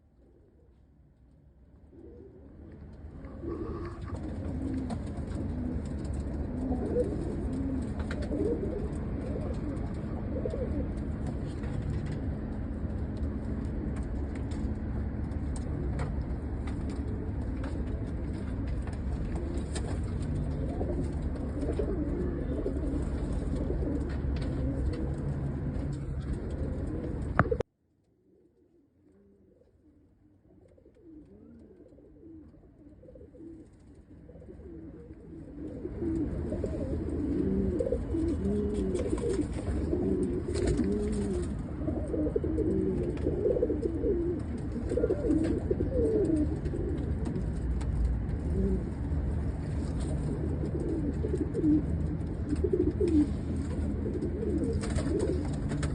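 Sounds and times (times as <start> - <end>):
low steady rumble: 0.0 - 27.6, 28.9 - 55.9
pigeons cooing: 1.8 - 27.6, 28.3 - 55.9.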